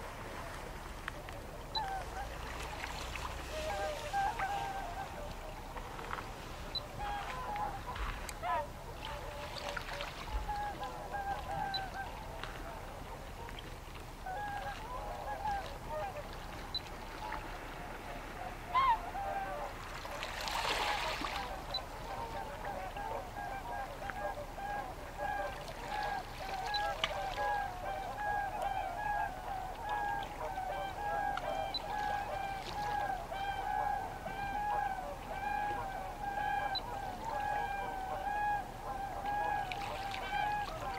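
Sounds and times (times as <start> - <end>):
waterfowl honking: 1.6 - 40.9.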